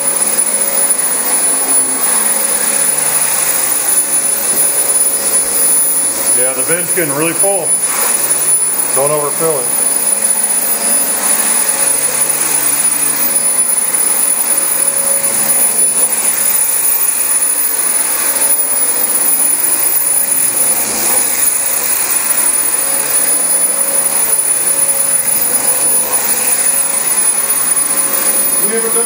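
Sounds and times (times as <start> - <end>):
vacuum cleaner running on carpet: 0.0 - 29.0.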